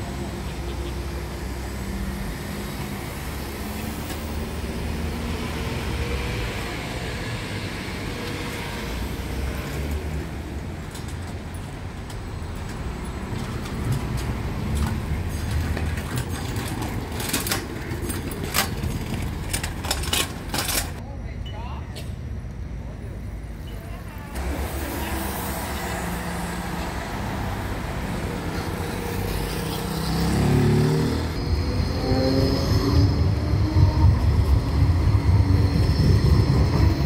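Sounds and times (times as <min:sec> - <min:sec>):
bus driving past: 0:00.0 - 0:20.5, 0:24.2 - 0:37.0
cars passing: 0:00.0 - 0:20.5, 0:23.8 - 0:37.0.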